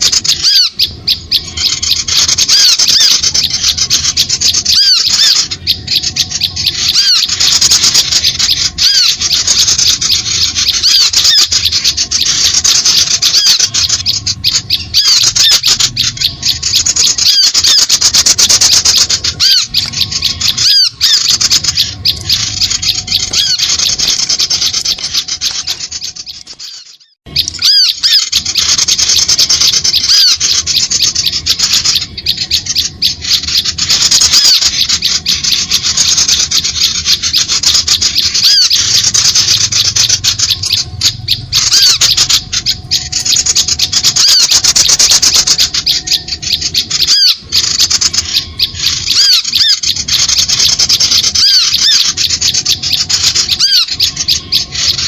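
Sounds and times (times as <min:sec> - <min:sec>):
small birds chattering: 0:00.0 - 0:55.0.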